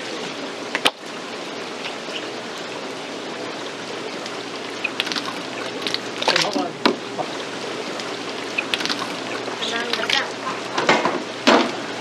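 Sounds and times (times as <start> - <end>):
water splashing in tanks: 0.0 - 12.0.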